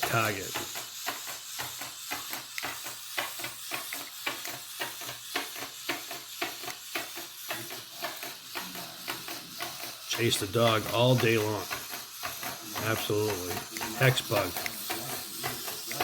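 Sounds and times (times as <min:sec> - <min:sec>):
robot toy legs clicking: 0:00.0 - 0:16.0.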